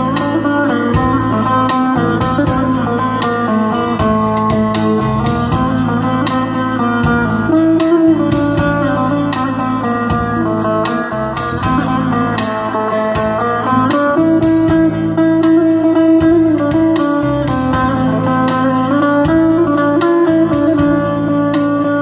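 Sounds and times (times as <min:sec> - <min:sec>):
band backing: 0:00.0 - 0:22.0
plucked string instrument melody: 0:00.0 - 0:22.0.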